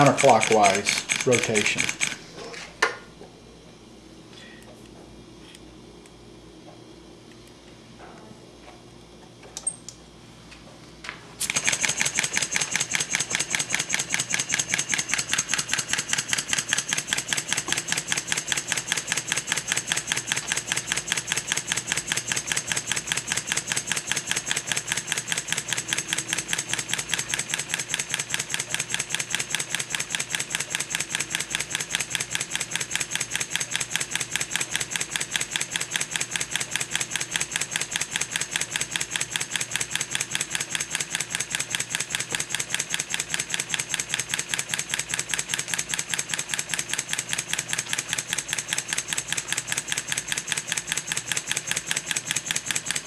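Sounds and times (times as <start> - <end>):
model steam engine running: 0.0 - 2.2, 11.4 - 53.0.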